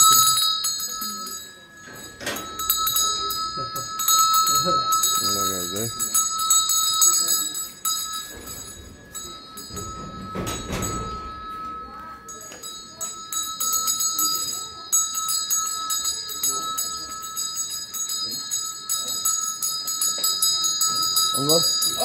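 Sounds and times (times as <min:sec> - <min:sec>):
hand bell ringing: 0:00.0 - 0:22.0.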